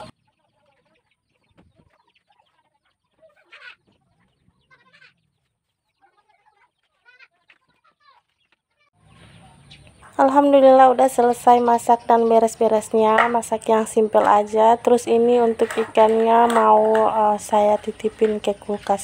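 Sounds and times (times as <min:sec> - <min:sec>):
chickens clucking: 0:00.0 - 0:10.2, 0:11.3 - 0:19.0.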